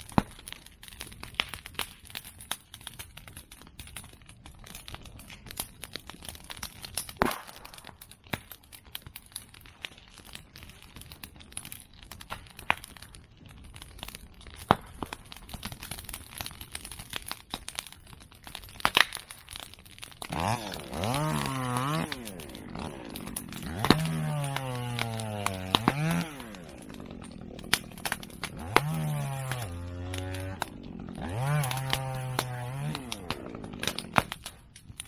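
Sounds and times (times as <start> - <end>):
fire crackling: 0.0 - 35.0
sharp fire pops: 0.0 - 35.0.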